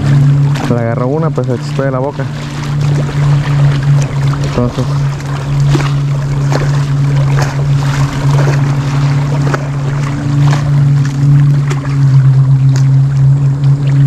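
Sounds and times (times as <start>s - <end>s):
loud steady low hum: 0.0s - 14.0s
waves splashing against boulders: 0.0s - 14.0s.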